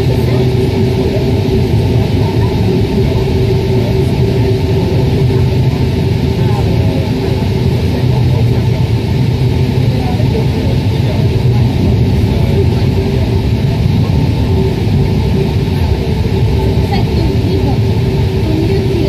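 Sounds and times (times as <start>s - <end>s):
train rumbling through tunnel: 0.0s - 19.0s.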